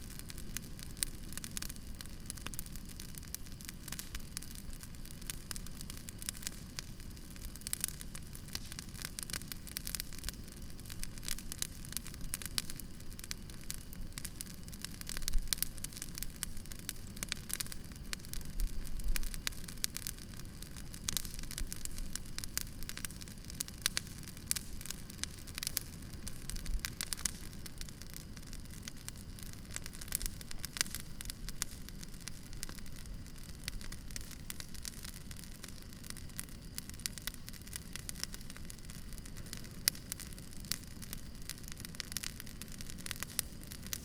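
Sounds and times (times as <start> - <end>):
campfire crackling: 0.0 - 44.0
fire hissing: 0.0 - 44.0
fire popping: 0.0 - 44.0.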